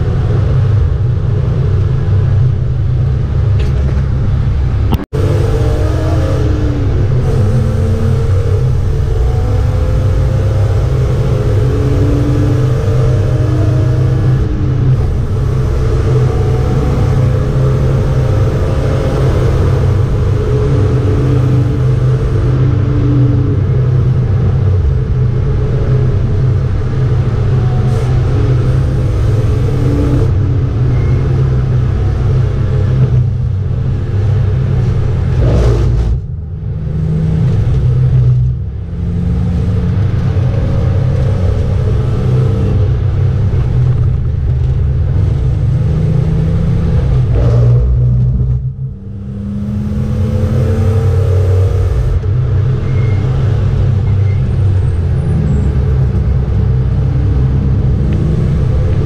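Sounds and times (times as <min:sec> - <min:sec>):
race car engine at high speed: 0:00.0 - 0:59.0
road noise: 0:00.0 - 0:59.0.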